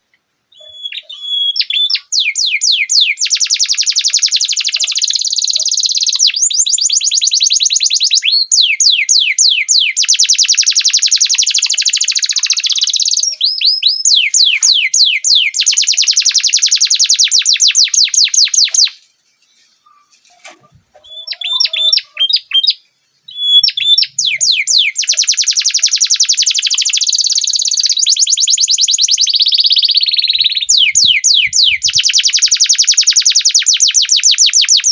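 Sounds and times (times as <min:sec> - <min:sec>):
canary trilling: 0:00.5 - 0:28.5.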